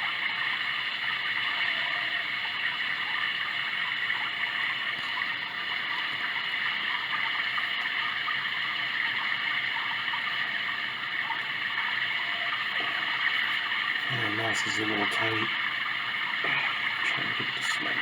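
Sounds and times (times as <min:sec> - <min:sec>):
running water rushing and gurgling: 0:00.0 - 0:18.0.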